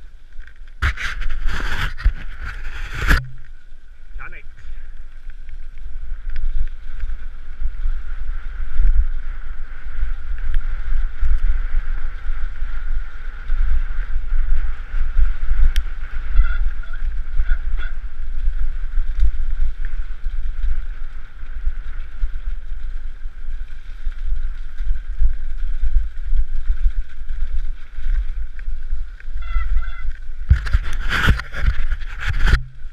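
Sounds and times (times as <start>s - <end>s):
wind buffeting microphone: 0.8s - 32.9s.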